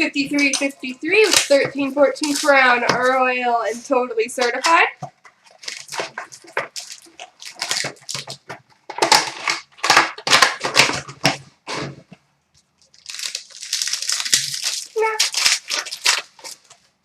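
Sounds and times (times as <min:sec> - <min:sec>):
card packaging tearing and crinkling: 0:00.3 - 0:03.4, 0:05.4 - 0:12.0, 0:12.8 - 0:16.8.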